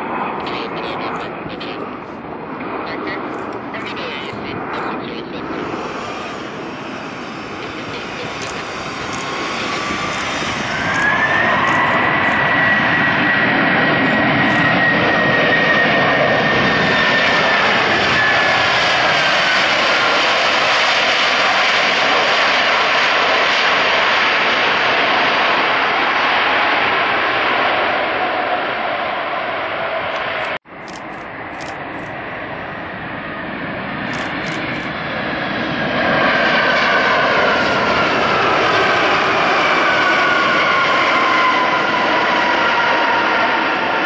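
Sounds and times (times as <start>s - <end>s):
high engine whine: 0.0s - 26.0s, 27.0s - 44.0s
jet engines roaring: 0.0s - 44.0s.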